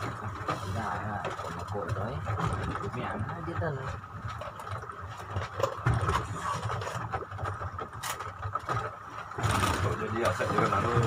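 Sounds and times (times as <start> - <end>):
outboard motors running: 0.0 - 11.0.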